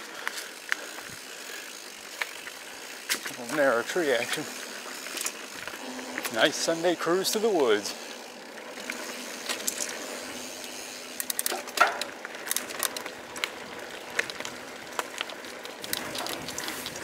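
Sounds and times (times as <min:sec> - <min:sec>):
bike clicks and rattles: 0:00.0 - 0:17.0
bike tyres on dirt trail: 0:00.0 - 0:17.0.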